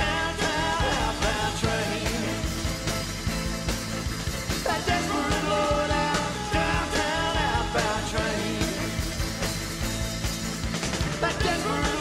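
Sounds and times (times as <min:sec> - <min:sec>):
rock band music: 0:00.0 - 0:12.0.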